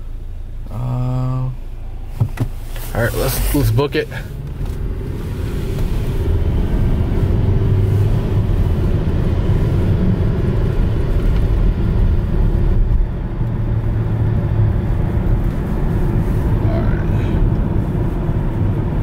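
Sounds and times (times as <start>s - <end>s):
transmission shifting up: 0.0s - 16.8s
car engine accelerating: 0.0s - 19.0s
road noise inside car: 0.0s - 19.0s.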